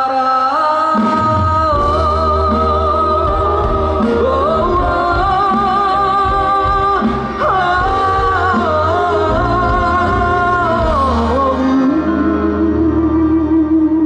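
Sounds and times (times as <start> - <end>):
person singing: 0.0 - 14.0
bass line: 1.0 - 14.0.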